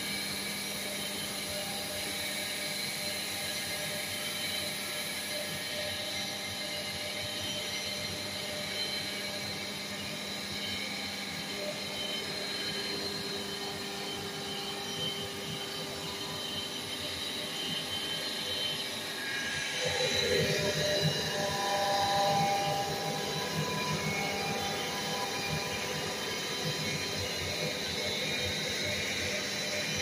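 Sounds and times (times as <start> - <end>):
resurfacing machine running: 0.0 - 30.0
steady machine whine: 0.0 - 30.0.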